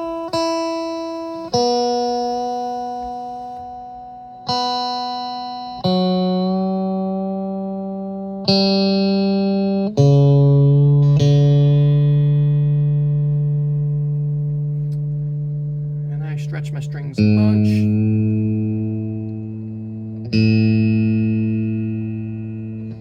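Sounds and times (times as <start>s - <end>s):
electric guitar strings plucked: 0.0s - 23.0s.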